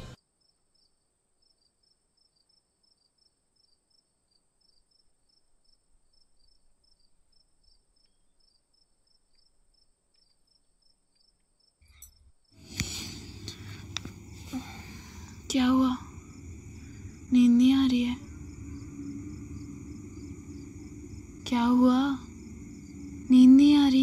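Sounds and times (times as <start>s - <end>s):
crickets chirping: 0.0s - 24.0s
high insect trill: 4.6s - 24.0s.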